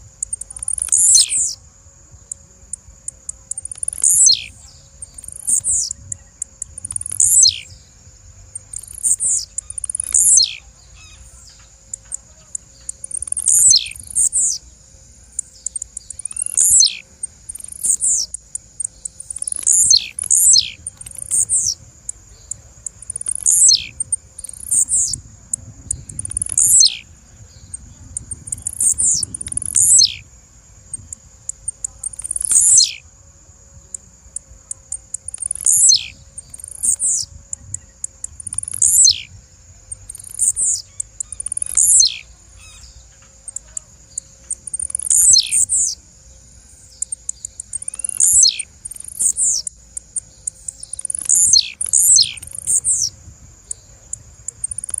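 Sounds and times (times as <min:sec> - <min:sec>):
high bird calls: 0:00.0 - 0:01.6, 0:02.2 - 0:30.3, 0:30.9 - 0:33.1, 0:34.9 - 0:55.0
high ticks: 0:00.0 - 0:01.6, 0:02.2 - 0:07.8, 0:08.5 - 0:14.7, 0:15.4 - 0:27.1, 0:27.7 - 0:30.2, 0:30.9 - 0:33.0, 0:33.9 - 0:46.0, 0:46.8 - 0:55.0.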